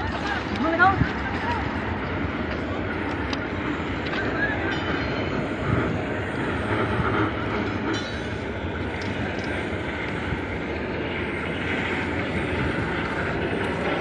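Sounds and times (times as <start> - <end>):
rail vehicle rumbling and rattling: 0.0 - 14.0.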